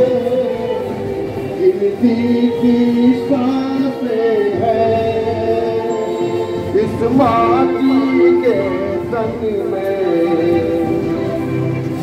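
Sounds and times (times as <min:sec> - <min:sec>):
voices singing together: 0:00.0 - 0:12.0.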